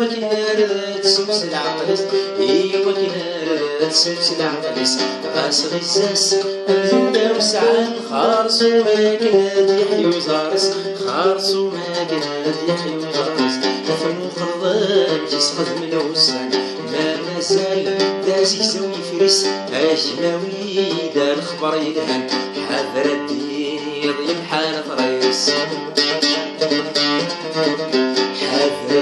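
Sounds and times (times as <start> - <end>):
man singing: 0.0 - 29.0
oud plucked notes: 0.0 - 29.0.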